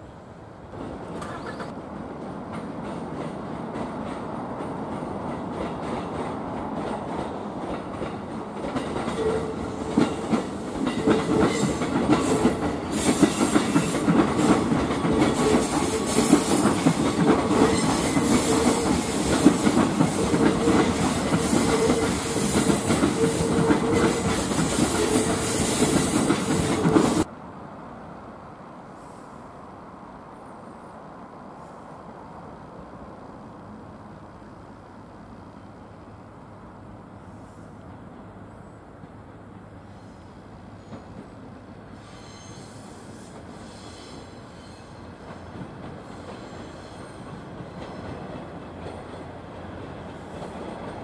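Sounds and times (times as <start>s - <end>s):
diesel railcar running: 0.0s - 51.0s.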